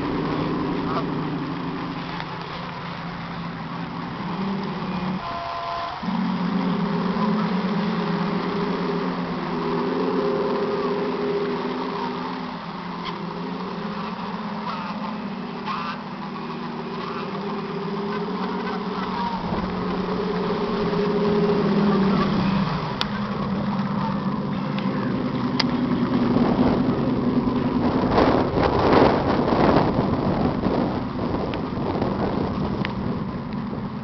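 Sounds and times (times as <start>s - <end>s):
rushing noise: 0.0s - 34.0s
simulated diesel engine throb: 0.0s - 34.0s.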